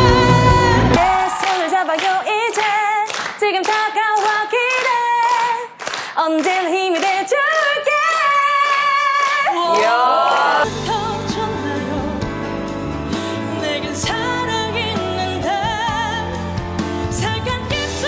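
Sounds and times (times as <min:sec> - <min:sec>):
song with instrumental accompaniment: 0:00.0 - 0:04.4, 0:07.0 - 0:18.0
woman singing a cappella: 0:00.0 - 0:12.3, 0:13.6 - 0:16.3, 0:17.2 - 0:18.0.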